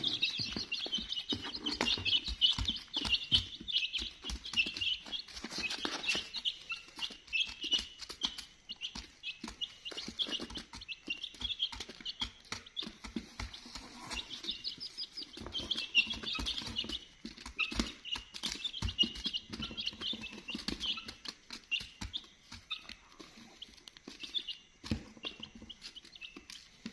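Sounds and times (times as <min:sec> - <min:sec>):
baby chickens peeping: 0:00.0 - 0:26.9.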